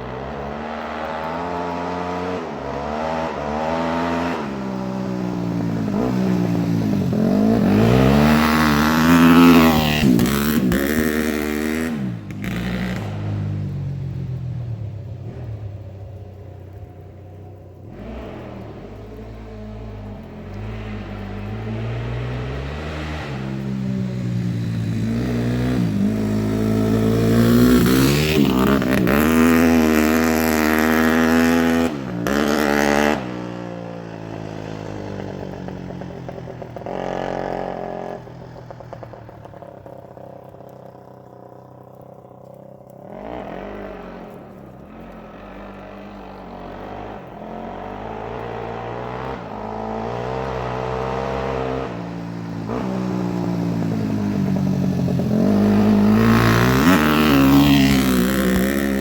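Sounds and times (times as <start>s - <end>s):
dirt bike engine revving: 0.0s - 14.3s, 17.8s - 39.6s, 40.2s - 59.0s.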